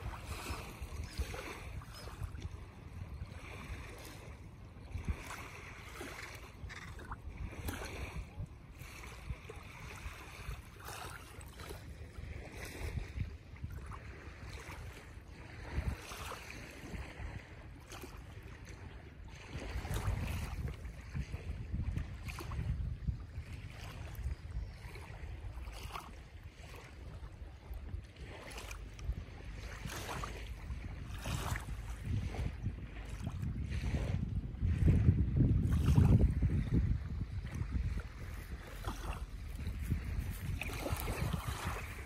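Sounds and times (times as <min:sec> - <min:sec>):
small waves lapping: 0:00.0 - 0:42.0
wind buffeting microphone: 0:00.0 - 0:42.0.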